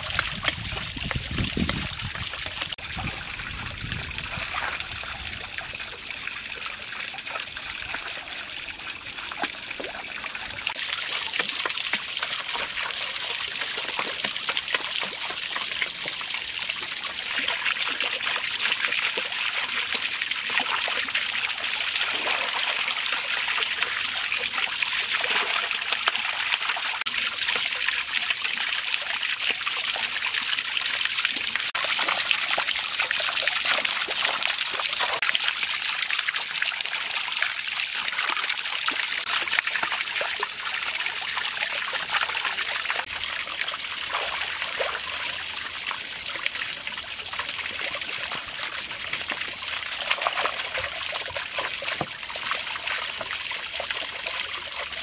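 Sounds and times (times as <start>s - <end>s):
water pouring and splashing: 0.0s - 55.0s.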